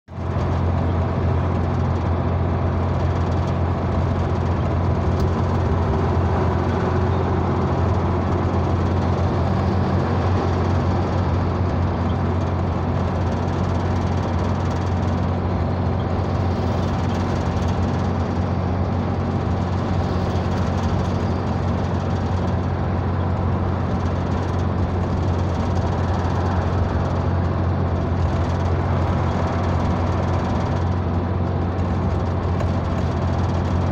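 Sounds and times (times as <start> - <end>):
car engine drone: 0.1 - 33.9.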